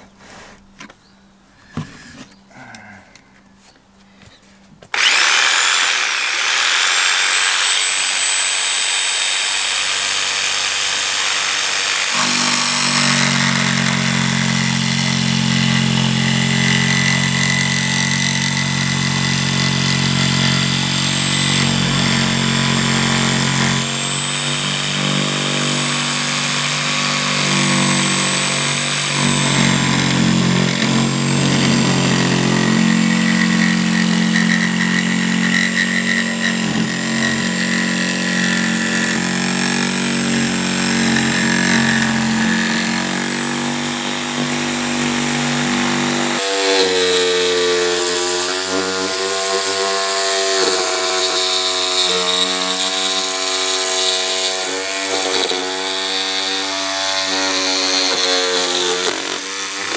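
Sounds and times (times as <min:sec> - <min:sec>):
jigsaw cutting board: 0:04.8 - 0:59.9.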